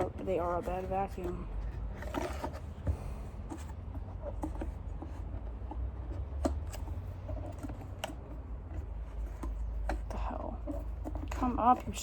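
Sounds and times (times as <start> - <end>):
plastic parts clicking and scraping: 0.0 - 12.0.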